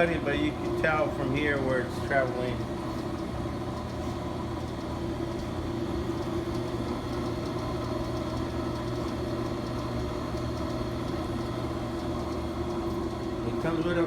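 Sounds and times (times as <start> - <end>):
brake lathe motor hum and whine: 0.0 - 14.0.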